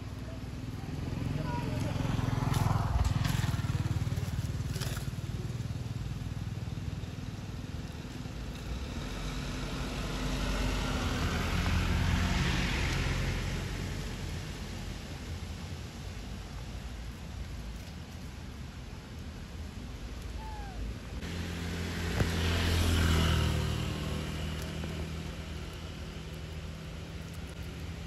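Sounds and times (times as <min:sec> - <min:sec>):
vehicle engine passing by: 0:00.0 - 0:15.0, 0:20.5 - 0:28.0.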